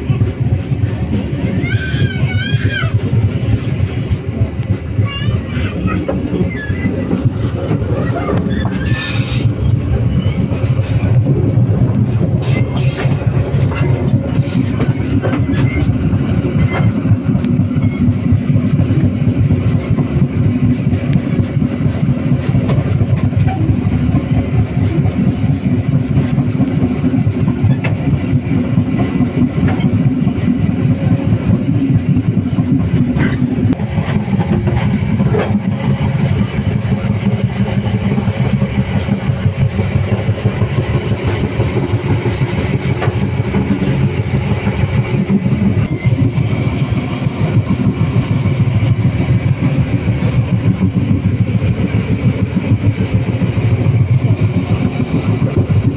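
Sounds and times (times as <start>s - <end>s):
train wheels rumbling: 0.0s - 55.9s.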